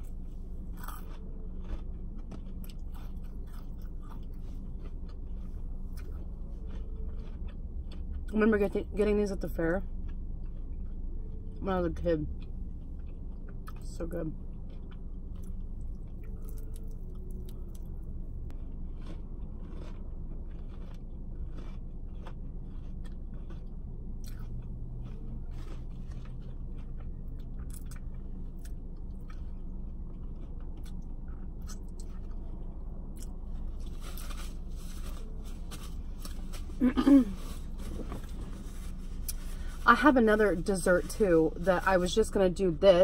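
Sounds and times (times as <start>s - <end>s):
person chewing crunchy food: 0.0s - 8.3s, 9.8s - 11.6s, 12.3s - 39.9s
low hum: 0.0s - 43.0s.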